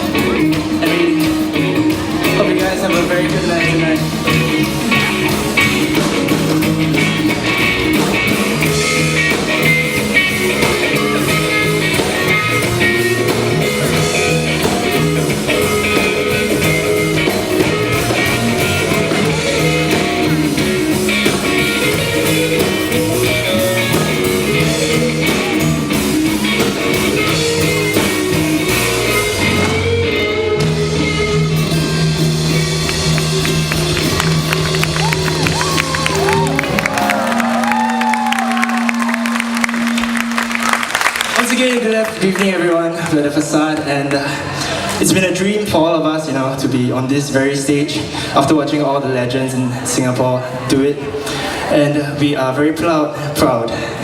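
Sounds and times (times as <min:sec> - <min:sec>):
electric guitar: 0:00.0 - 0:45.8
rock band playing live: 0:00.0 - 0:54.0.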